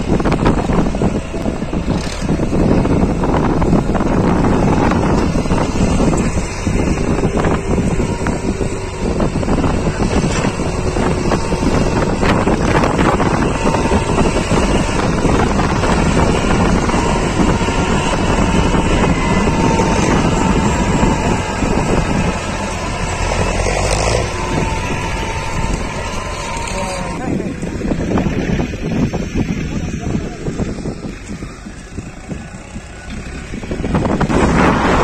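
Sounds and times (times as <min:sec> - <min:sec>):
tractor diesel engine running: 0:00.0 - 0:35.0
wind buffeting microphone: 0:00.0 - 0:35.0.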